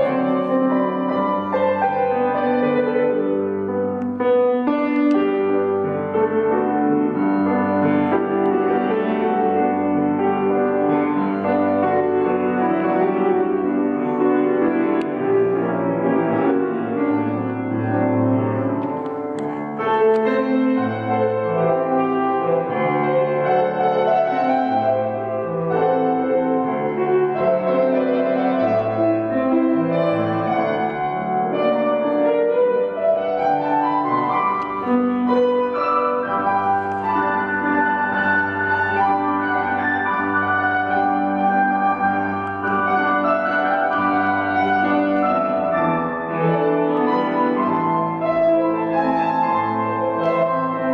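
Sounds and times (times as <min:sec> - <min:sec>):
grand piano playing: 0:00.0 - 0:50.9.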